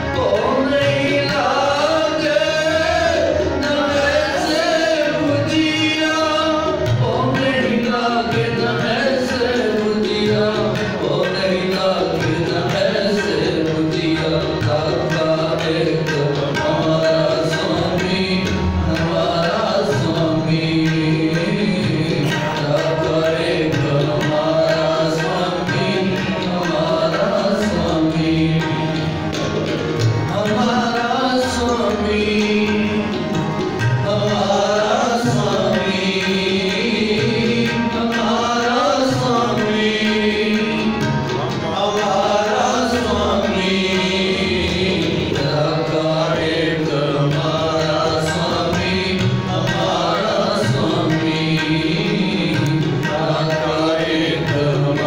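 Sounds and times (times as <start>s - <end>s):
men singing a hymn: 0.0s - 29.5s, 30.2s - 33.4s, 34.0s - 55.0s
harmonium chords: 0.0s - 55.0s
tabla rhythm: 0.0s - 55.0s.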